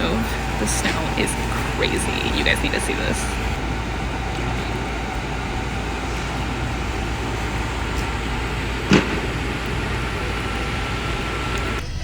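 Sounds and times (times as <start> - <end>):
road traffic noise: 0.0 - 11.8.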